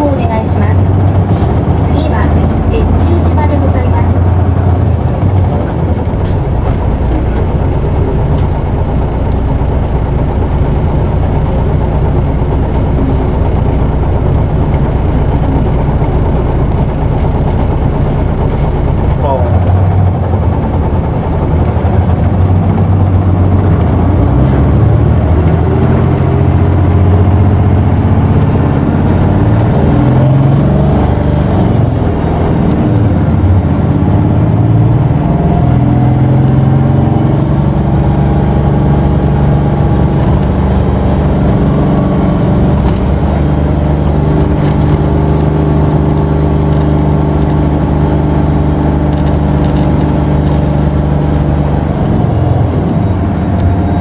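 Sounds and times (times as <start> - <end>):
bus diesel engine pulling hard: 0.0 - 54.0.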